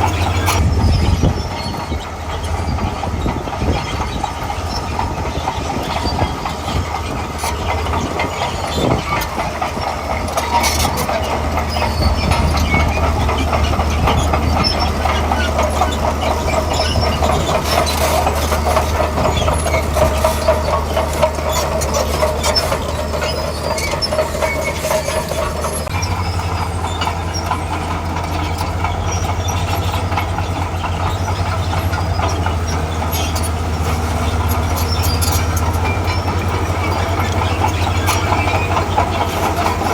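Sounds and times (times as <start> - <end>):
crawler tracks clanking and squealing: 0.0 - 39.9
diesel engine running under load: 0.0 - 39.9.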